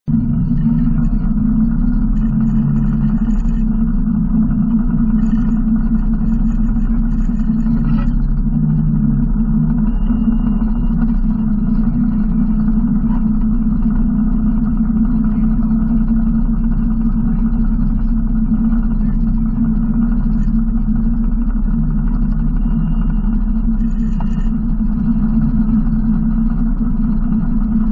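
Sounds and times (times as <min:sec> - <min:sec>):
utility vehicle engine droning: 0:00.0 - 0:27.9.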